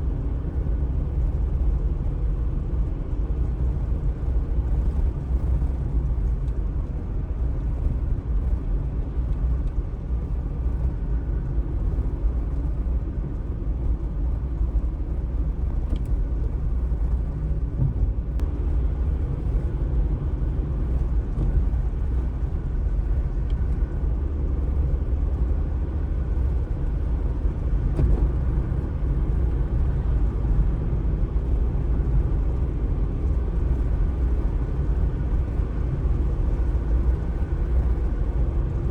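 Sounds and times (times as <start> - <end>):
low city street rumble: 0.0 - 38.9.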